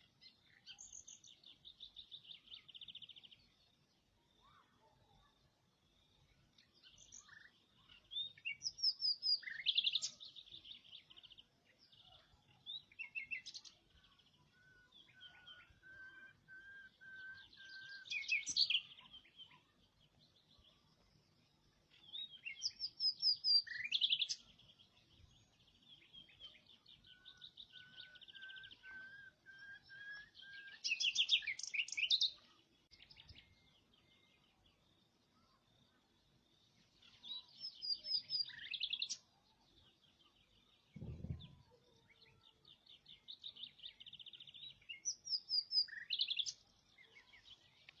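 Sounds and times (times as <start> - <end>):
songbird trilling and chirping: 0.0 - 5.2, 6.5 - 48.0.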